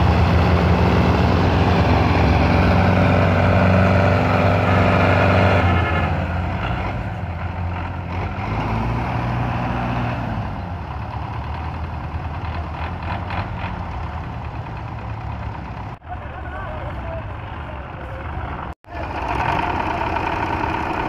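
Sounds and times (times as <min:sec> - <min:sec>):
tractor engines under load: 0:00.0 - 0:21.0.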